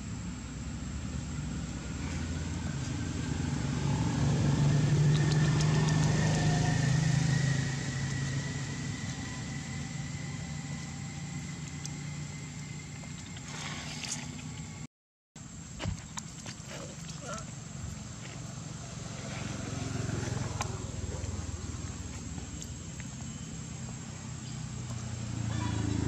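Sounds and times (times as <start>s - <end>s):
vehicle engine passing by: 0.1s - 14.8s, 16.7s - 26.0s.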